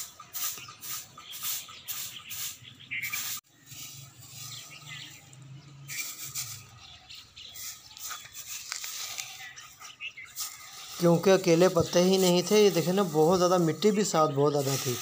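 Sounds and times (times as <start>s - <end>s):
grass broom sweeping concrete: 0.0s - 15.0s.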